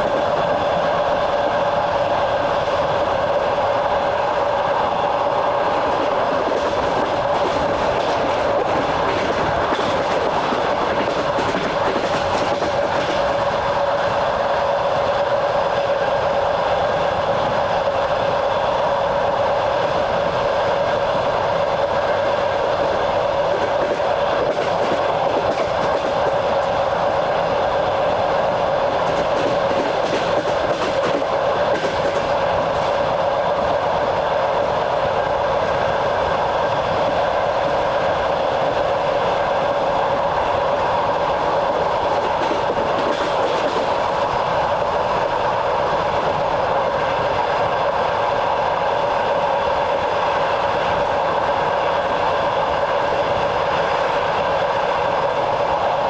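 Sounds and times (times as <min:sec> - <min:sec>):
train rolling rumble: 0:00.0 - 0:56.0.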